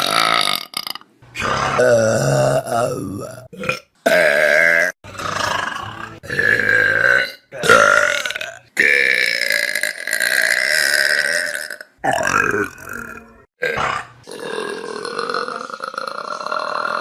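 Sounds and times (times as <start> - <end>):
person burping: 0.0 - 17.0.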